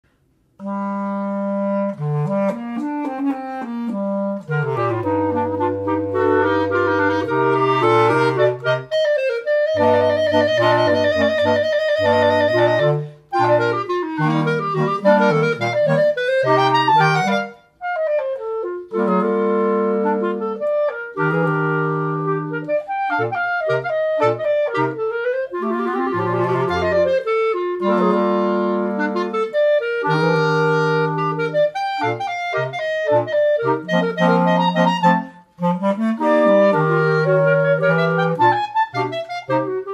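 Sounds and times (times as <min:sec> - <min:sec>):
clarinet quartet playing: 0:00.1 - 0:39.9.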